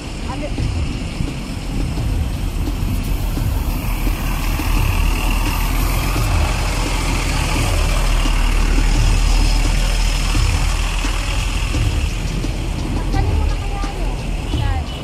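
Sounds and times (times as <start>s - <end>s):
bus engine idling: 0.0s - 15.0s
street traffic: 0.0s - 15.0s.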